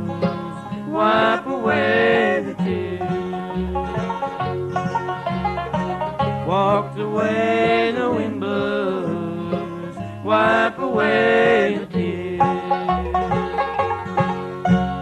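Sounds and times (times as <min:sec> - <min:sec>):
bluegrass band playing: 0:00.0 - 0:15.0
upright bass line: 0:00.0 - 0:15.0.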